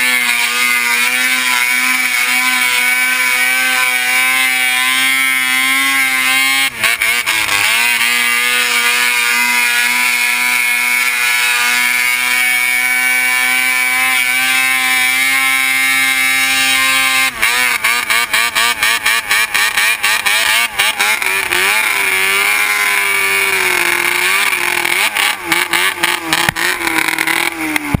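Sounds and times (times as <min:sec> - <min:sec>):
snowmobile engine at high revs: 0:00.0 - 0:28.0.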